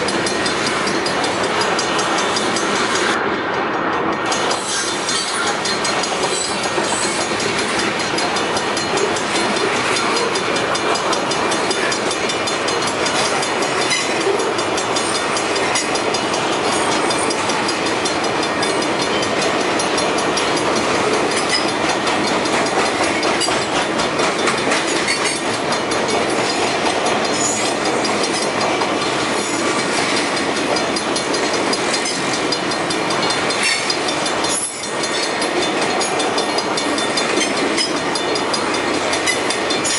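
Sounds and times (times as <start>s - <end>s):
freight train rumbling past: 0.0s - 39.9s
wheels clattering over rails: 4.0s - 39.9s.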